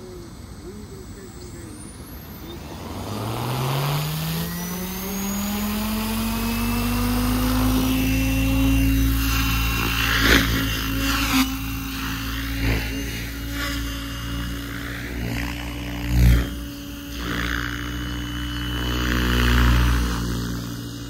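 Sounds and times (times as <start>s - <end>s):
electric helicopter rotor hum: 0.0s - 21.0s.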